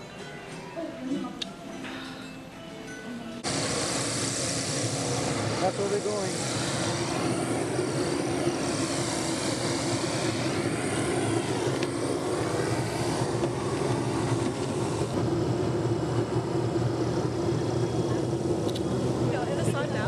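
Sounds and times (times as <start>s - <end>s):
aircraft engine drone: 3.4s - 20.0s
high engine whine: 3.4s - 20.0s.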